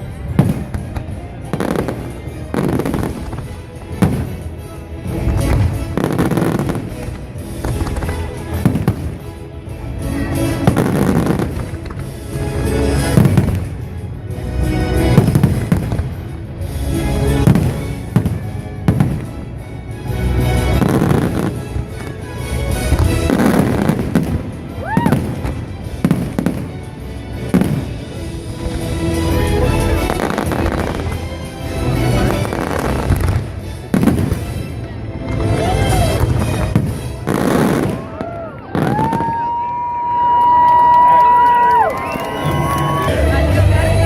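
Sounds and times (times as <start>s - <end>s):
loud music: 0.0s - 39.5s, 40.2s - 44.0s
fireworks bursting: 0.0s - 43.5s.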